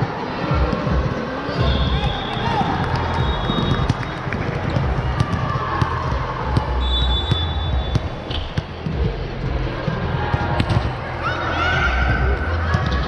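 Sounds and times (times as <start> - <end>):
hall noise: 0.0 - 13.0.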